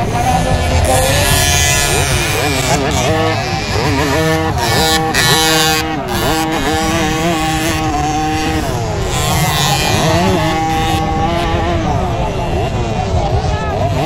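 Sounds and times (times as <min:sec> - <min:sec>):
motocross bikes revving past: 0:00.0 - 0:14.0.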